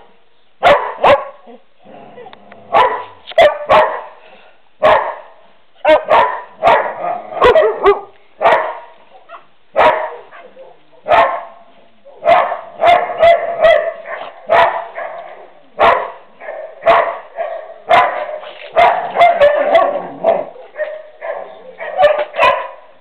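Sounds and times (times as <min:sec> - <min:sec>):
dog barking: 0:00.6 - 0:01.4, 0:02.7 - 0:04.2, 0:04.8 - 0:11.6, 0:12.2 - 0:22.9.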